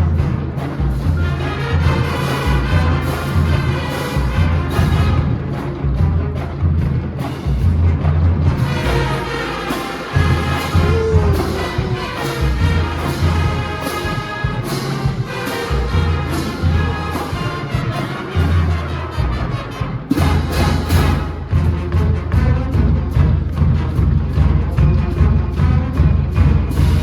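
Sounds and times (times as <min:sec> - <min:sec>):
brass horns: 0:00.0 - 0:27.0
marching drums: 0:00.0 - 0:27.0.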